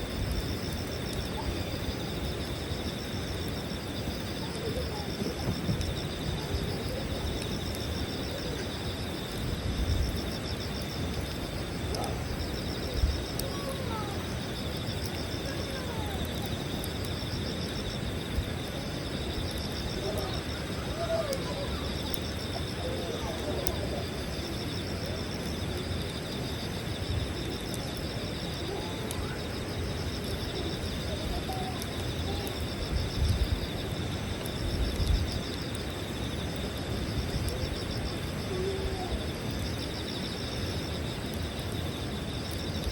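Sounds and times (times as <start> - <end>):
campfire crackle: 0.0 - 42.9
insects chirping: 0.0 - 42.9.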